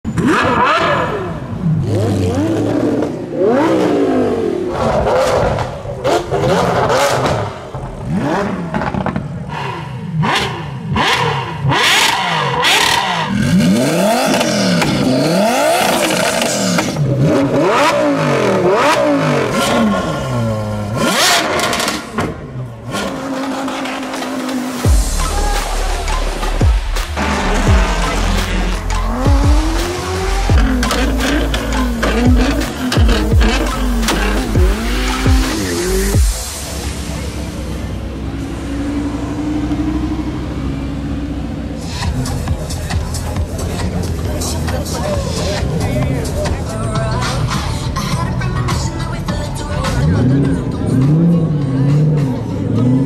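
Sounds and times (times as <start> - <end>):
supercar engines revving: 0.1 - 53.0.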